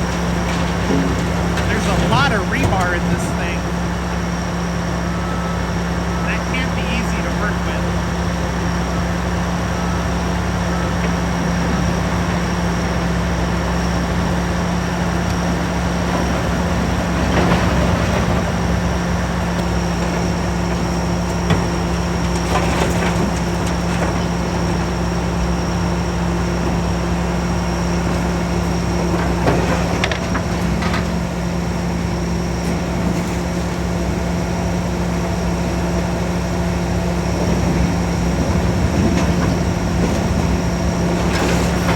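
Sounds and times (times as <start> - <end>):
excavator diesel engine under load: 0.0 - 41.9.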